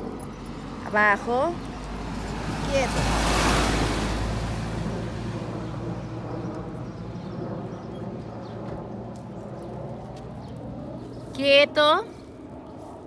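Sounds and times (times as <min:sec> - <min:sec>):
quiet street ambience: 0:00.0 - 0:13.0
road vehicle passing: 0:00.0 - 0:13.0.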